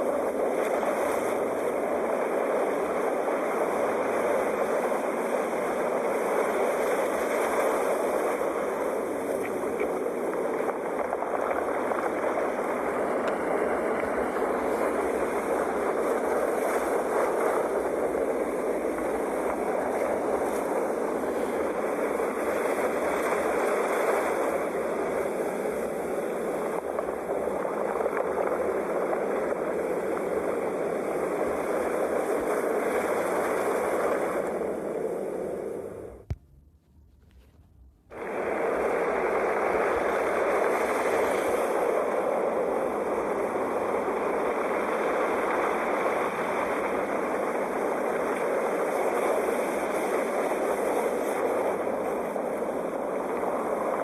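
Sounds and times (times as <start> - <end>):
waves breaking on shore: 0.0 - 36.4, 38.1 - 54.0.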